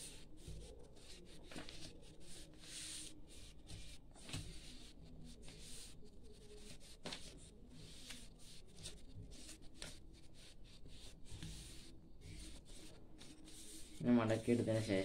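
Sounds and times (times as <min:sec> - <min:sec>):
paper folding and rustling: 0:00.0 - 0:15.0.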